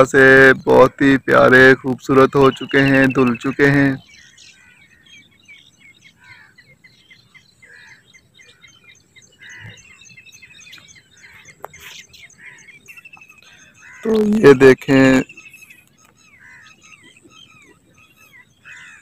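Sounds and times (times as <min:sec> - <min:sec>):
bird rapid trill: 0:00.0 - 0:19.0
small birds chirping: 0:00.0 - 0:19.0.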